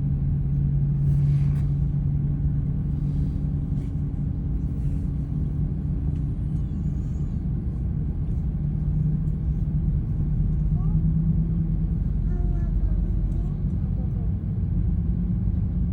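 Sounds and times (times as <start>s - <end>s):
airplane low rumble and hum: 0.0s - 15.9s.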